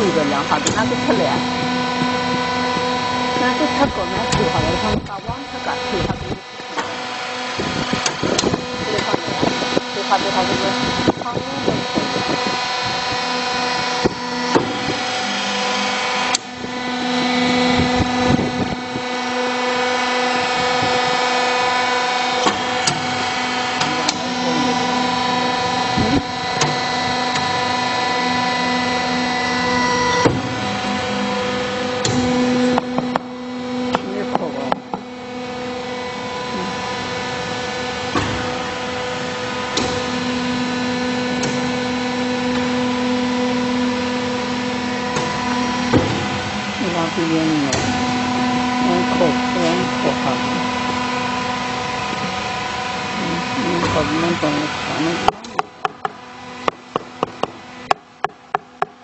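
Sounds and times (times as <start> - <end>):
press machine humming: 0.0 - 59.0.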